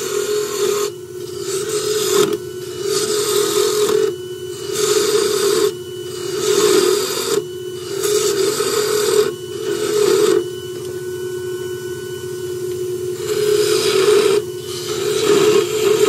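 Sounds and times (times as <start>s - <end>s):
turning tool cutting wood: 0.0s - 10.5s, 13.2s - 16.0s
lathe motor humming: 0.0s - 16.0s.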